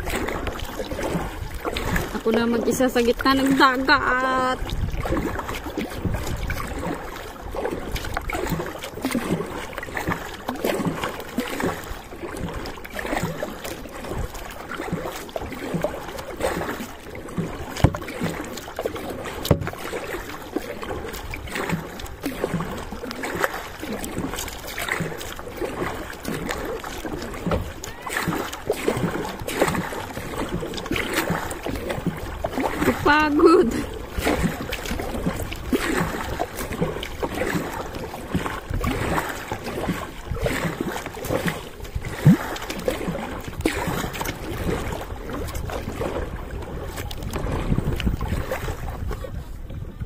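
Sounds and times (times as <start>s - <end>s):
kayak paddle splashing: 0.0s - 50.0s
water sloshing: 0.0s - 50.0s.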